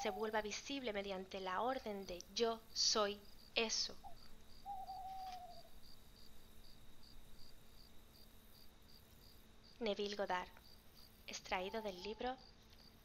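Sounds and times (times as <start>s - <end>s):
faint cricket chirping: 0.0s - 13.0s.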